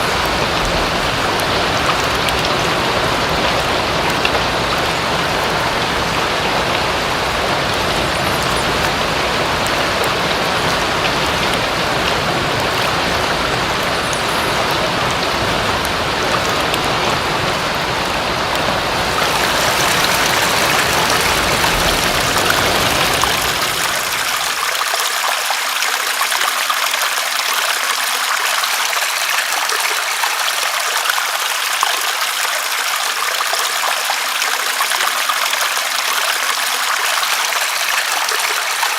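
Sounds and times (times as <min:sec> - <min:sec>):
running water: 0:00.0 - 0:38.9
steady rain: 0:00.0 - 0:38.9.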